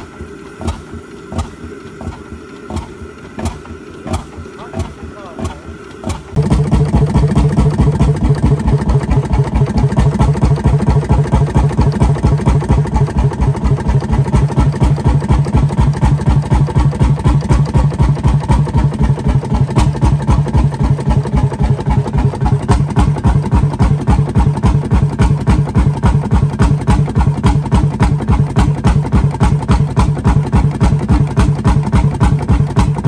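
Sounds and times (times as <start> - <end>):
stationary engine running: 0.0 - 33.0.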